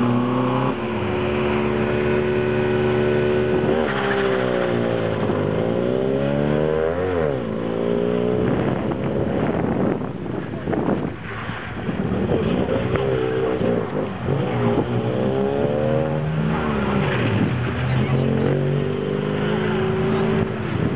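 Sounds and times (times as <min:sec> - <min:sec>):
car engine revving hard: 0:00.0 - 0:09.6, 0:12.2 - 0:20.9.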